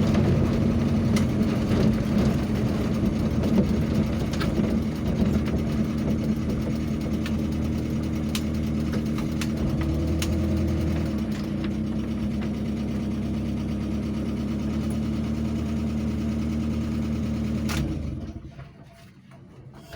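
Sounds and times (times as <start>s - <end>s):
vehicle engine idling: 0.0s - 18.7s.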